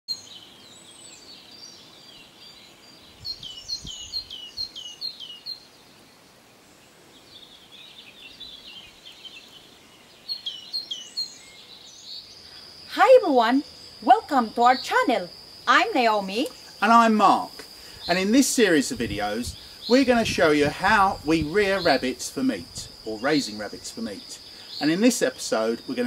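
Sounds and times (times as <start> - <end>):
birds chirping: 0.1 - 26.0.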